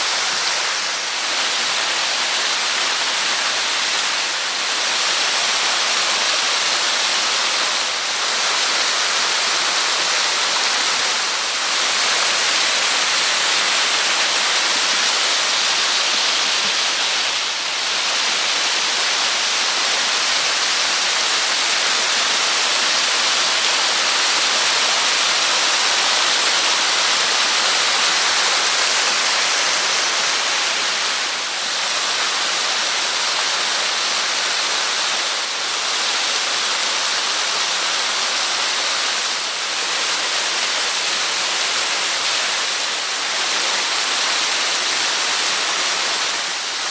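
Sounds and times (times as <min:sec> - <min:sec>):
waterfall rushing and splashing: 0:00.0 - 0:46.9.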